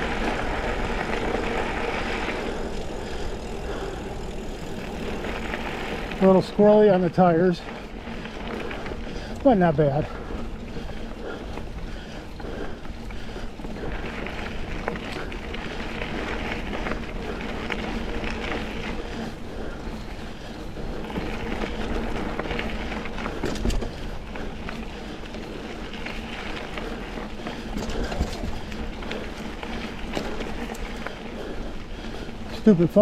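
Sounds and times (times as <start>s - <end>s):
bike tires rumbling on dirt: 0.0s - 33.0s.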